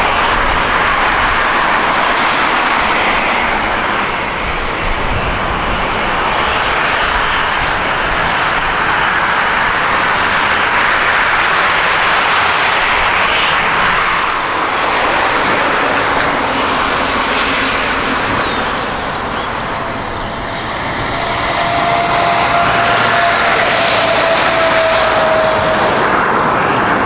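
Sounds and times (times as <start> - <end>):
jet engine rushing: 0.0 - 27.0
steady whining tone: 0.0 - 27.0.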